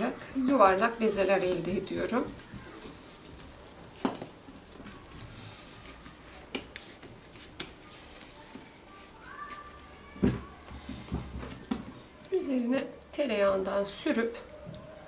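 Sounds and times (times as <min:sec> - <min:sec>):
dough squishing: 0:00.0 - 0:12.4.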